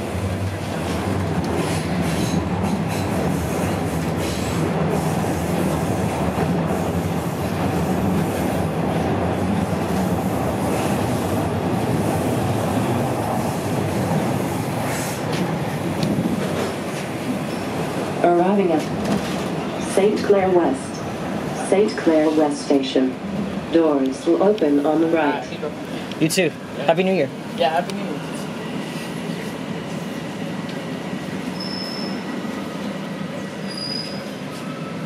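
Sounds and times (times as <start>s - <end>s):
subway train rumbling in tunnel: 0.0s - 35.0s.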